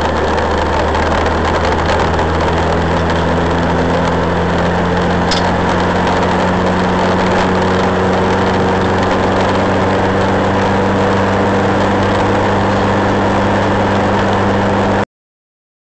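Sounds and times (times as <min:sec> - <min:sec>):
car engine running at steady revs: 0:00.0 - 0:15.0.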